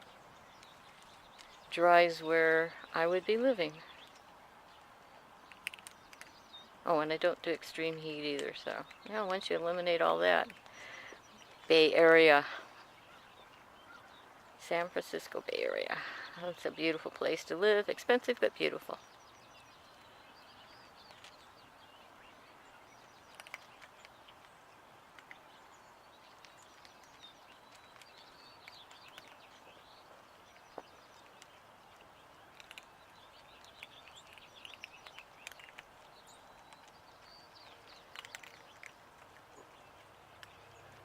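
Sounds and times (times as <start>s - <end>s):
faint bird chirps and calls: 7.8s - 41.0s.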